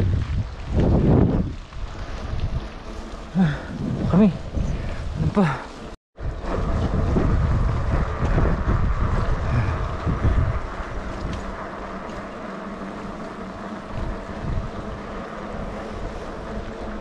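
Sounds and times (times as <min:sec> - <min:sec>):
moving vehicle running noise: 0:00.0 - 0:17.0
wind rumbling on microphone: 0:00.0 - 0:17.0.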